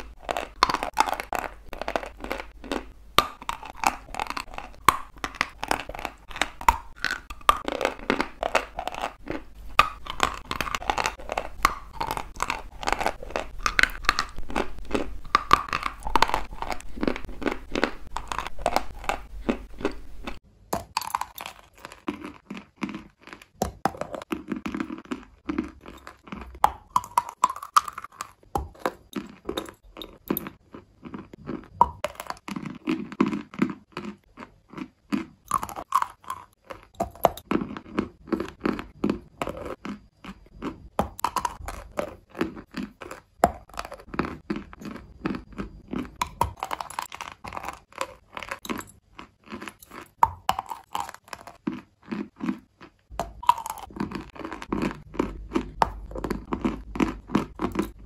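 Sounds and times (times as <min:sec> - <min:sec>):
gritty chewing: 0:00.0 - 0:58.0.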